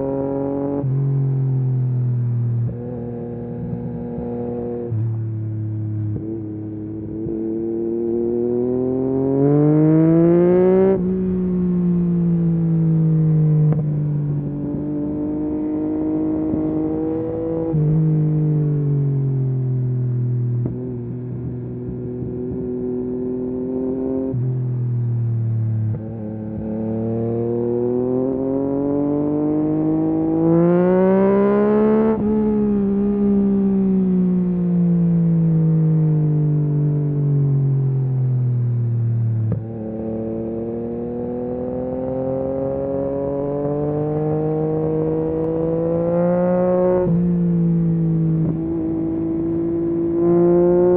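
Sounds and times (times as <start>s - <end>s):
motorcycle engine revving: 2.2s - 38.0s, 38.6s - 50.9s.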